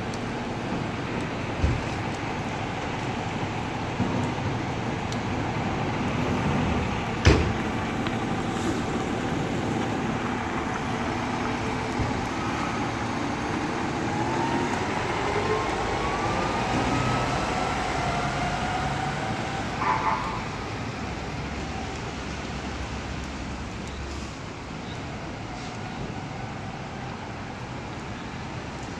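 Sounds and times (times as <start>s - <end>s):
fire engine running: 0.0s - 28.9s
street traffic: 0.0s - 28.9s.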